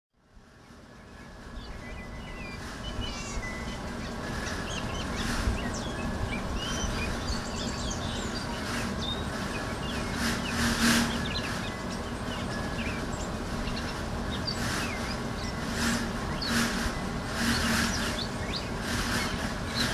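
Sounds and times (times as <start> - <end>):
songbirds chirping: 0.2 - 19.9.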